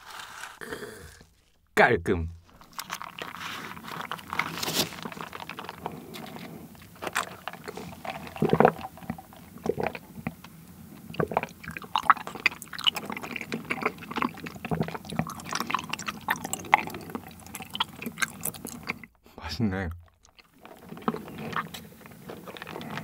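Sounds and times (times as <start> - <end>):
slurping through a straw: 0.0 - 1.6, 2.4 - 19.2, 20.0 - 23.0
chewing tapioca pearls: 0.0 - 1.7, 2.4 - 19.2, 19.9 - 23.0.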